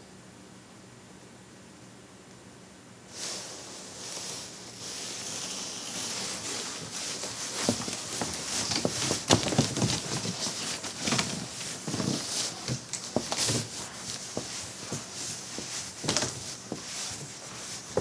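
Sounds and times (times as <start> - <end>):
cardboard box scraping on carpet: 3.2 - 18.0.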